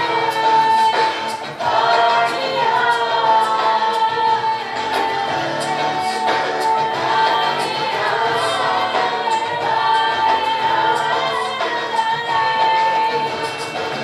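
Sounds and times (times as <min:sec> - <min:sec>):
singing voice holding long notes: 0:00.0 - 0:13.8
percussion hits: 0:00.0 - 0:14.0.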